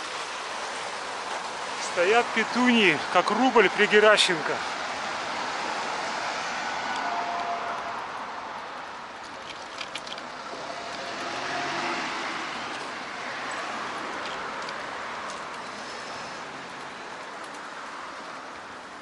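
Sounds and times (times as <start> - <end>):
car passing: 0.0 - 19.0
road traffic: 0.0 - 19.0.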